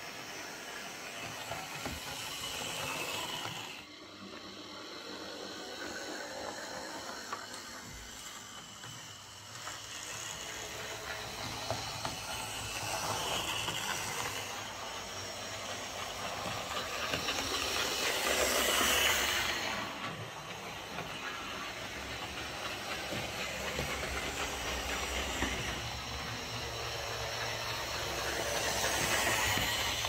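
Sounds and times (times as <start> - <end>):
model locomotive motor rattling: 0.0 - 30.0.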